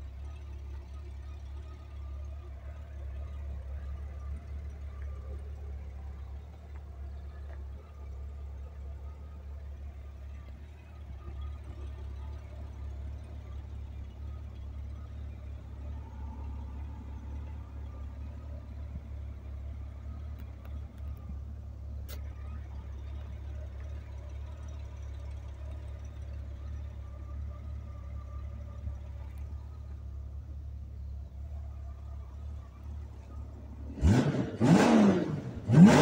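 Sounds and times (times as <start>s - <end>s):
motorcycle engine idling: 0.0s - 34.5s.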